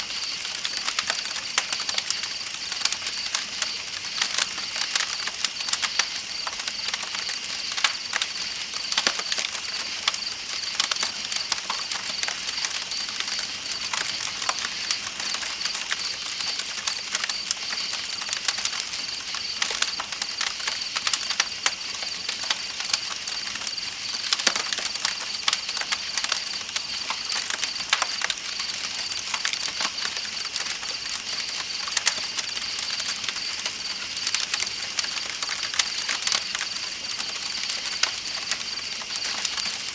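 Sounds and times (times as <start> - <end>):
campfire crackling and popping: 0.0 - 39.9
night insects trilling: 0.0 - 39.9.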